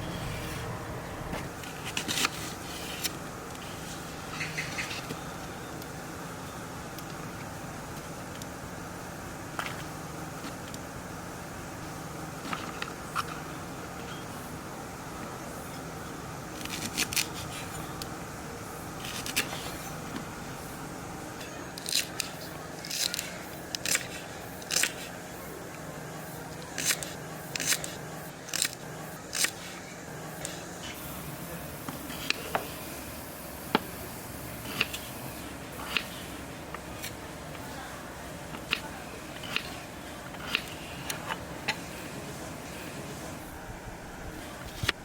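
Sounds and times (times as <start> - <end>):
steady low background noise: 0.0 - 45.0.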